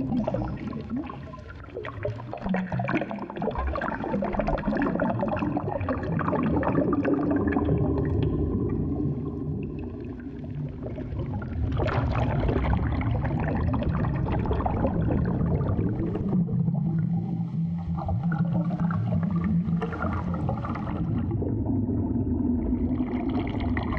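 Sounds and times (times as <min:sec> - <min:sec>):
low underwater rumble: 0:00.0 - 0:23.9
water bubbling and gurgling: 0:00.0 - 0:23.9.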